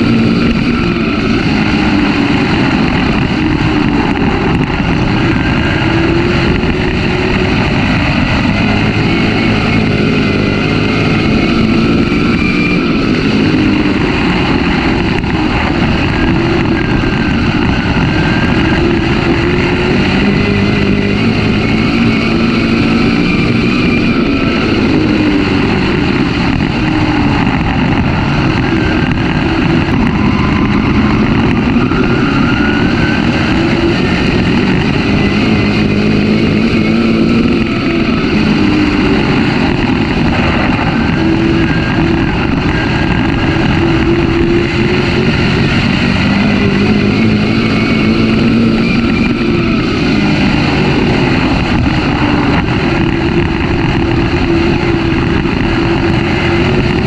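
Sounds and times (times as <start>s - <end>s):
race car engine at full speed: 0.0s - 57.0s.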